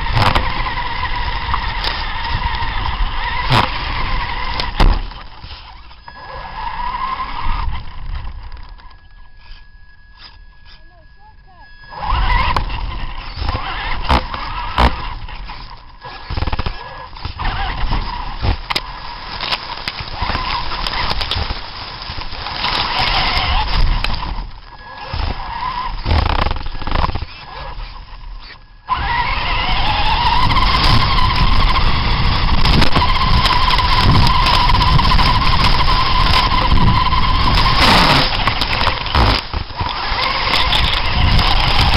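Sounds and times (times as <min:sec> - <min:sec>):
radio-controlled truck motors revving: 0:00.0 - 0:41.9.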